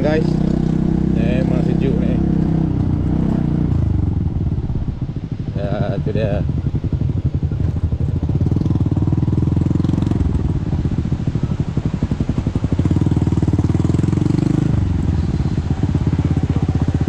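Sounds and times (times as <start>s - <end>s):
small motorcycle engine: 0.0s - 17.0s.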